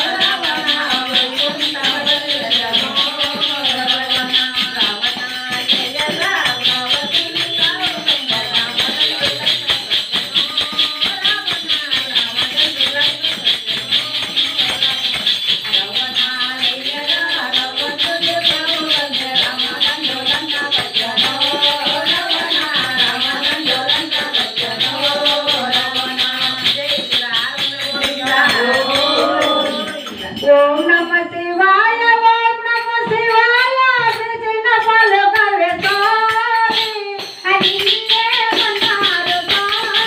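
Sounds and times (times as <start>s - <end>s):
jingling hand percussion: 0.0s - 40.0s
women singing into microphones: 0.0s - 40.0s.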